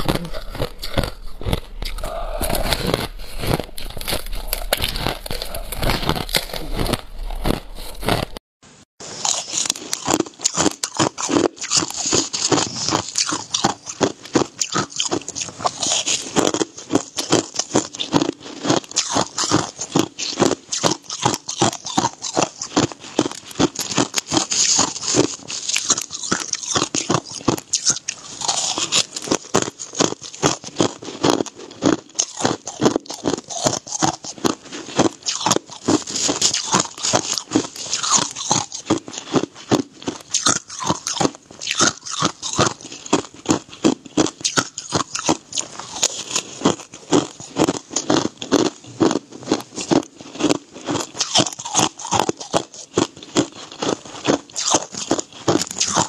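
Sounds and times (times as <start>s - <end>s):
crushed ice being chewed: 0.0s - 8.4s, 9.0s - 56.0s.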